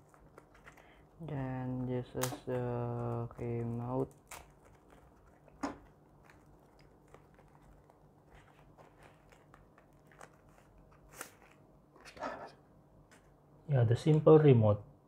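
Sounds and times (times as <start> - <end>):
plastic wrapping crinkling: 0.0 - 12.1.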